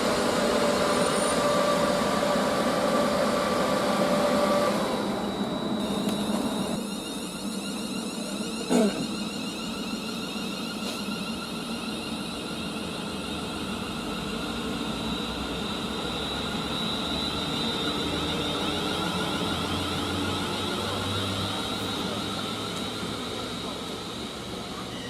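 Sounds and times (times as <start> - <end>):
train humming and whining: 0.0 - 25.0.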